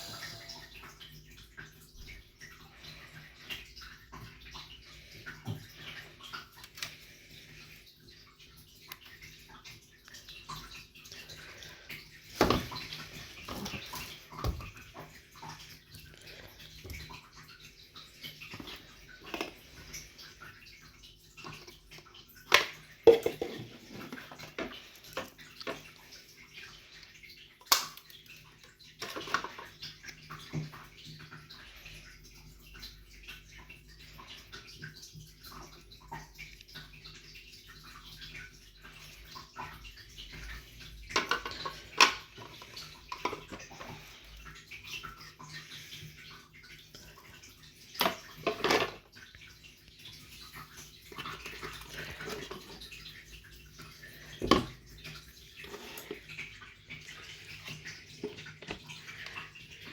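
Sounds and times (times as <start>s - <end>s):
water dripping: 0.0s - 59.9s
water splashing and sloshing: 0.0s - 59.9s.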